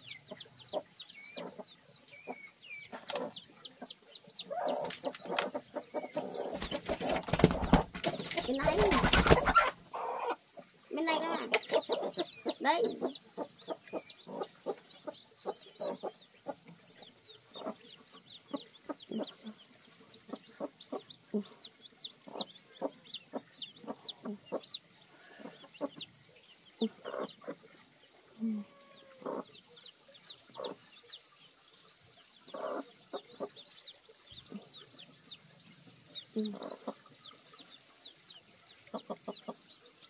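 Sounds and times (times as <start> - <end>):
hen clucking: 0.0 - 31.3, 32.4 - 40.0
chicks peeping: 0.0 - 40.0.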